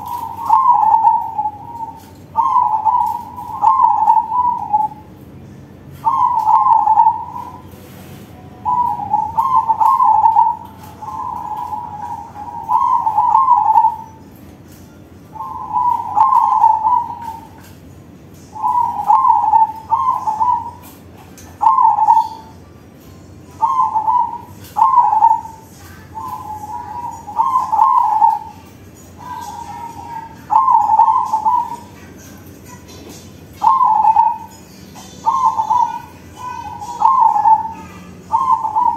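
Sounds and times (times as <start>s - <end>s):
dove cooing: 0.0s - 5.2s, 5.8s - 14.3s, 15.3s - 22.6s, 23.5s - 38.9s.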